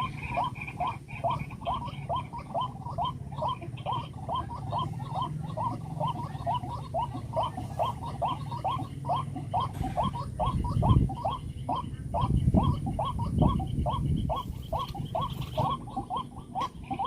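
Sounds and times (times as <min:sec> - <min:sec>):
low steady hum: 0:00.0 - 0:17.0
waterhen calling: 0:00.0 - 0:17.0.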